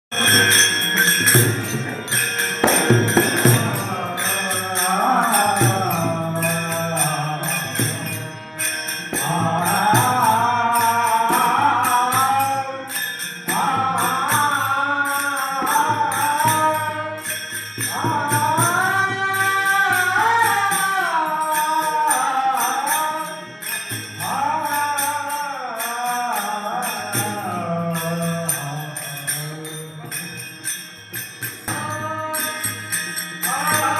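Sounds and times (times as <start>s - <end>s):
instrumental accompaniment: 0.1s - 33.9s
jingling percussion: 0.1s - 33.9s
person singing devotional song: 0.1s - 33.9s.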